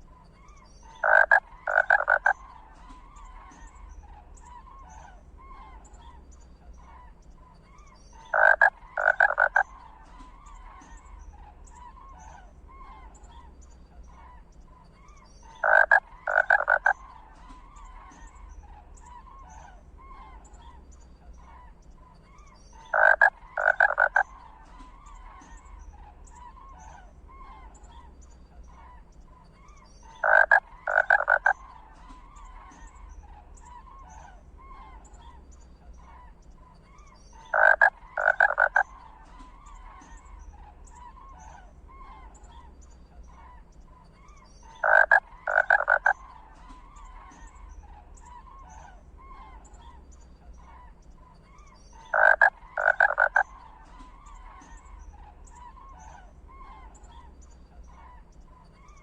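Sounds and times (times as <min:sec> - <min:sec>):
chorus with faint high chirps: 0:00.0 - 0:59.0.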